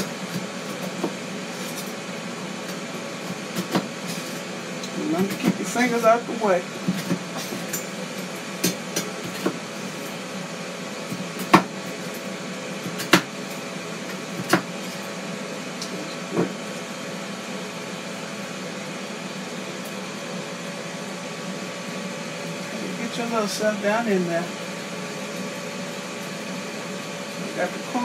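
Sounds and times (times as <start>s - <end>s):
steady appliance hum: 0.0s - 28.0s.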